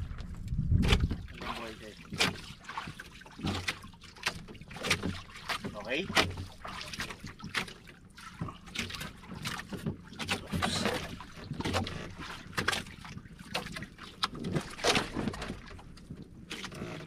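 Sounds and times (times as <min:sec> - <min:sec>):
small waves slapping a boat hull: 0:00.0 - 0:17.0
steady wash of water: 0:00.9 - 0:17.0.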